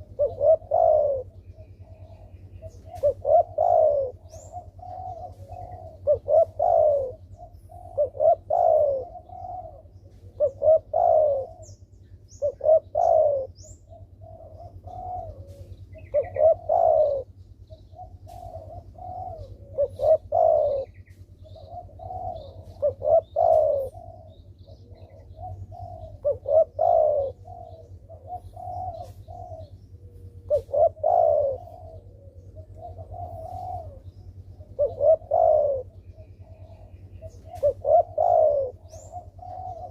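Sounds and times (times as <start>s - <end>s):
dove cooing: 0.0s - 39.9s
small birds chirping: 0.0s - 39.9s
steady low hum: 0.0s - 39.9s.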